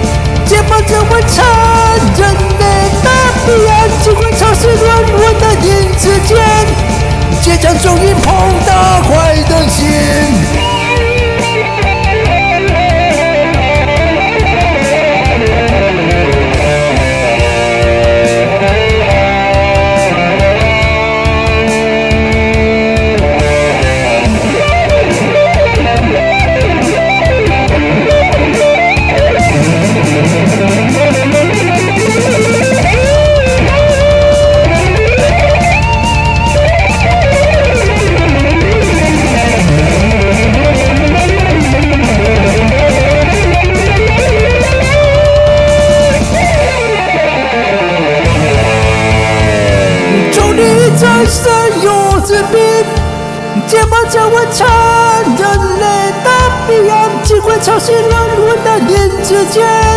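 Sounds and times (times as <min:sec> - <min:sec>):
electric guitar solo: 0:00.0 - 0:59.9
rock band with drums: 0:00.0 - 0:59.9.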